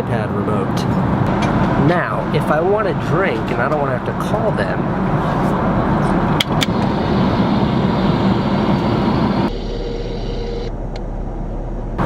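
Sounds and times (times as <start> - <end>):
airliner cabin roar: 0.8 - 12.0.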